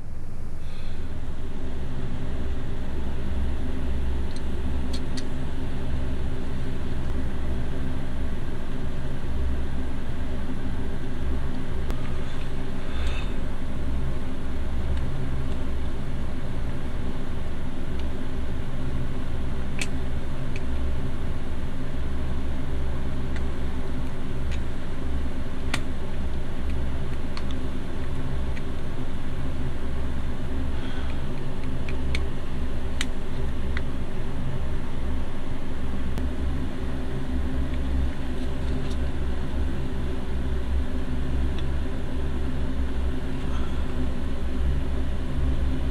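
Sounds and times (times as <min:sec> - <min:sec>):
low machine hum: 0:00.0 - 0:45.9.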